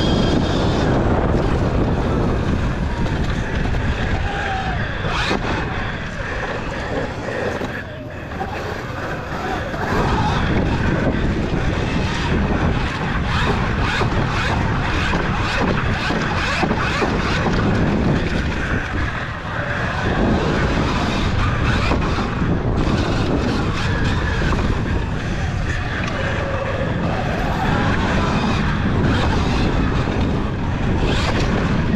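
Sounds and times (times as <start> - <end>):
bike knocking and rattling: 0.0 - 31.9
wind buffeting camera: 0.0 - 31.9.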